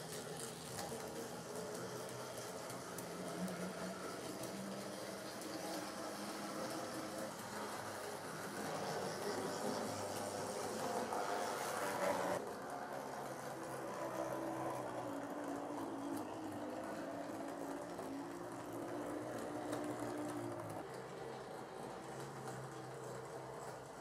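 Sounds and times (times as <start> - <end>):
diesel train running: 0.0 - 24.0.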